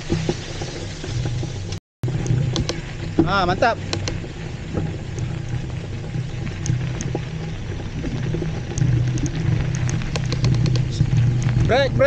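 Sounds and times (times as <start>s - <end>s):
bike tyres rumbling on dirt: 0.0s - 12.0s.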